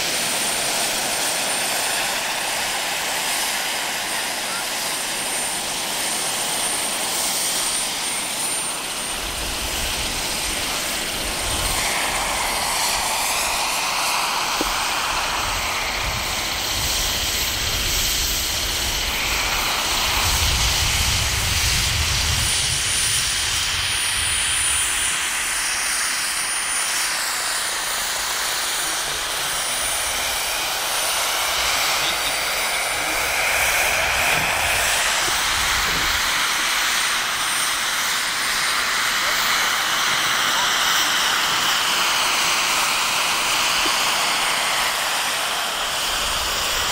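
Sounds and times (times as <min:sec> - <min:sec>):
helicopter rotor noise: 0:00.0 - 0:46.9
high turbine whine: 0:00.0 - 0:46.9.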